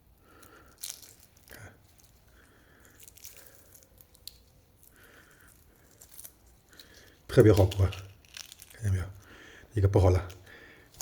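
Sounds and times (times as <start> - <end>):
egg shell cracking and peeling: 0.0 - 11.0.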